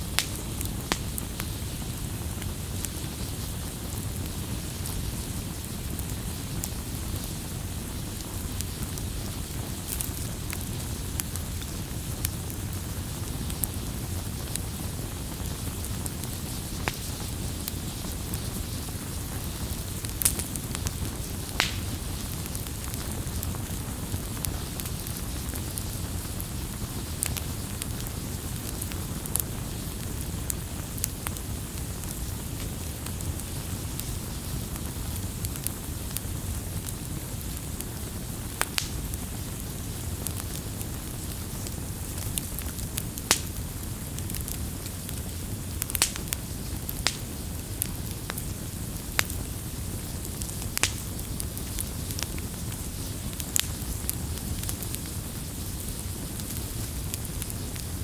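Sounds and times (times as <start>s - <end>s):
bonfire flames rumbling: 0.0s - 58.0s
fire crackling and popping: 0.0s - 58.0s.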